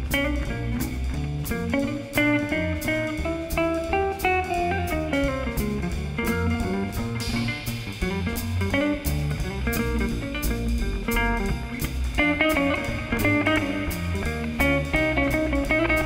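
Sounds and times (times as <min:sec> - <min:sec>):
double bass low notes: 0:00.0 - 0:16.0
drums with cymbal strokes: 0:00.0 - 0:16.0
electric jazz guitar solo: 0:00.0 - 0:16.0.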